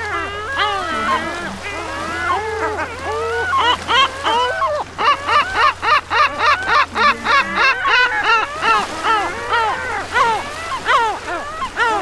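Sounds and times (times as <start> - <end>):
gull calling: 0.0 - 12.0.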